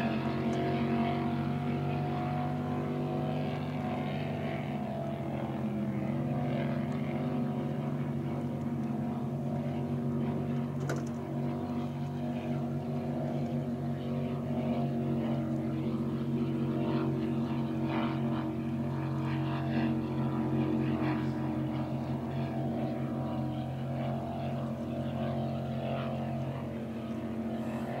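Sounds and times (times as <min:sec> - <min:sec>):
motorboat engine running: 0:00.0 - 0:28.0.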